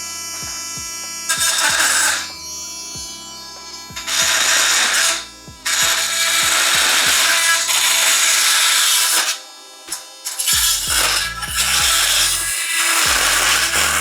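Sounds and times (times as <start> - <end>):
multi-tool cutting metal: 0.0 - 14.0.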